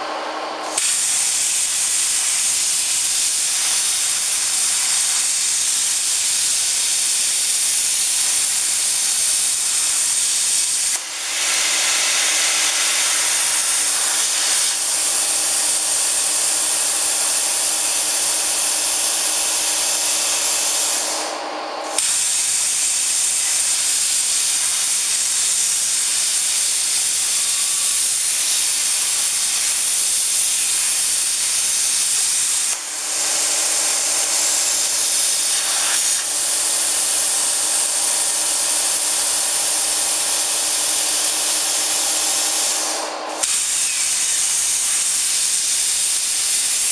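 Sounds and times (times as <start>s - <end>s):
cutting torch hissing: 0.6s - 46.9s.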